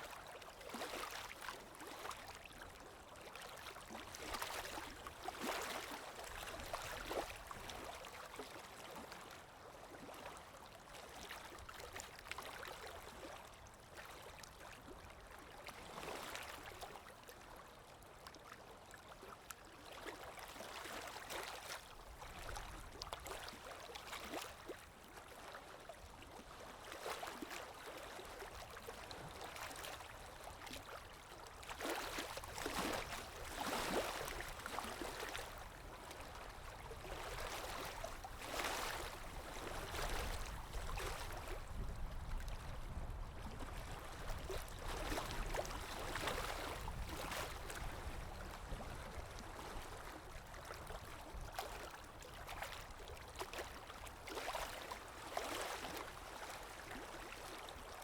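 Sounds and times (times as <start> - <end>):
calm waves lapping: 0.0 - 58.0.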